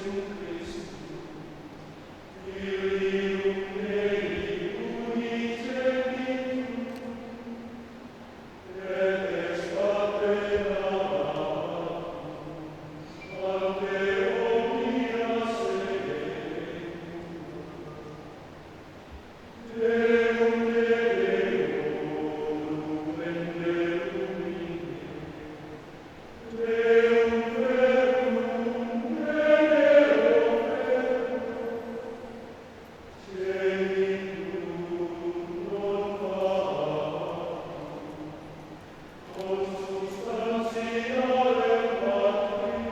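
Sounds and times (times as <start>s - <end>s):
men's choir singing unaccompanied: 0.0s - 42.9s.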